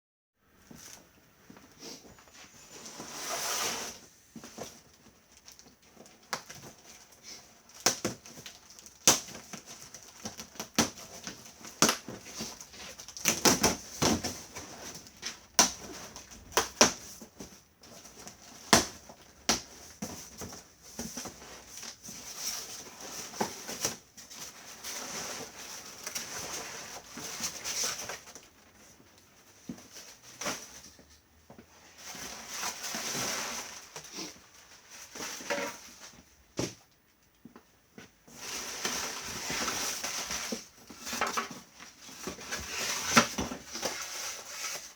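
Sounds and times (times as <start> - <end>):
packaging rustling and crinkling: 0.7 - 31.1, 38.0 - 44.9.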